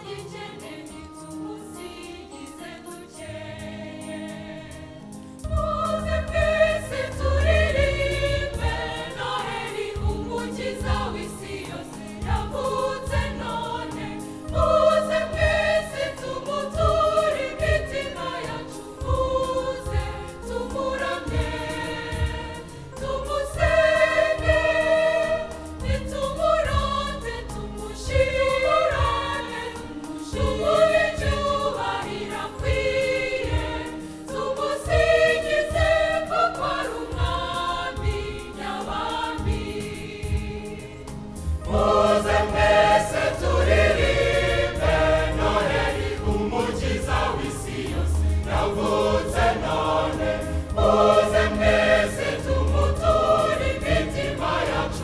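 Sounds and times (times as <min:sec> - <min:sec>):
choir singing a carol: 0:00.0 - 0:55.0.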